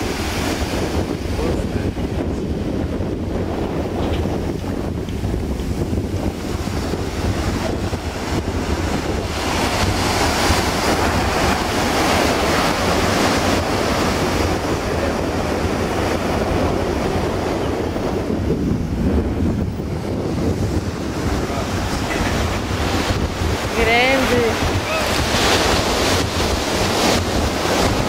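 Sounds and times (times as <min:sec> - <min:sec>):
surf breaking on beach: 0:00.0 - 0:28.0
wind buffeting microphone: 0:00.0 - 0:28.0.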